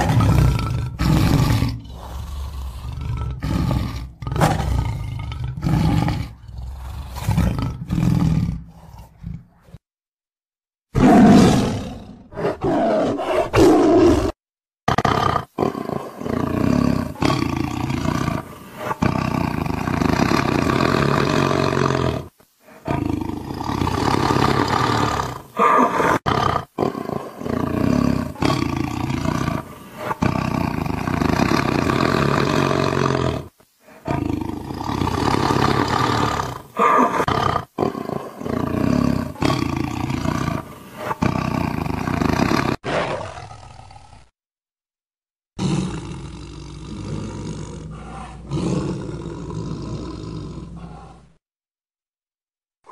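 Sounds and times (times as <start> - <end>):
tiger roaring: 0.0 - 9.8, 11.0 - 44.3, 45.6 - 51.4.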